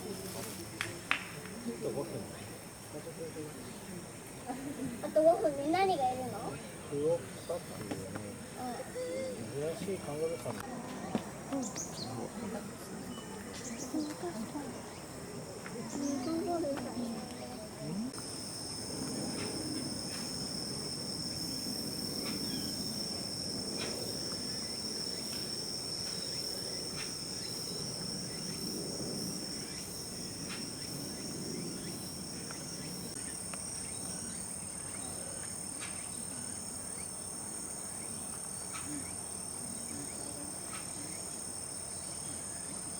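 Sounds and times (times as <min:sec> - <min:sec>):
insects trilling: 0:01.5 - 0:42.9.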